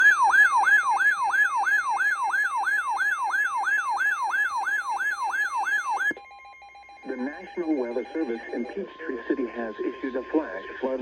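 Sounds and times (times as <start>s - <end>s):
electronic siren alarm: 0.0s - 10.2s.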